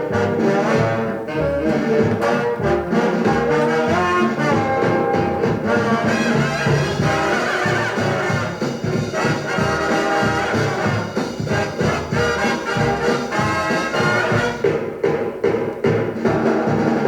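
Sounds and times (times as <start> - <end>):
swing band brass music: 0.0 - 17.0.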